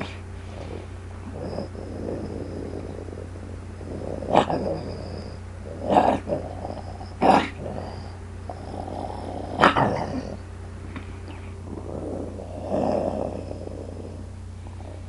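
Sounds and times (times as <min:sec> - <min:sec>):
person growling like a wolf: 0:00.0 - 0:10.4, 0:11.3 - 0:15.0
person snarling: 0:00.0 - 0:10.4, 0:11.4 - 0:15.0.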